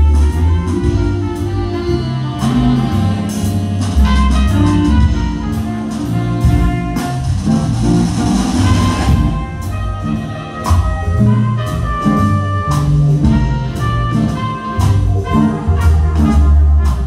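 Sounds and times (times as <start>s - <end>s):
bass line: 0.0s - 17.0s
drum kit with cymbals: 0.0s - 17.0s
guitar: 0.0s - 17.0s
saxophone: 0.0s - 17.0s.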